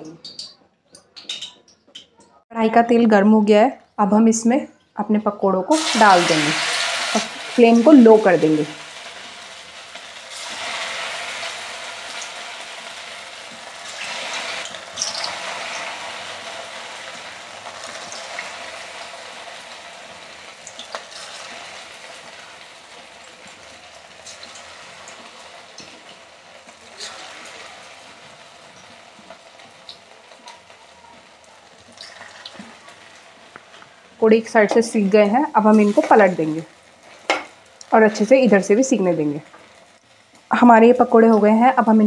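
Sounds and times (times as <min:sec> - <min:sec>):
batter sizzling in hot oil: 0:05.7 - 0:42.0.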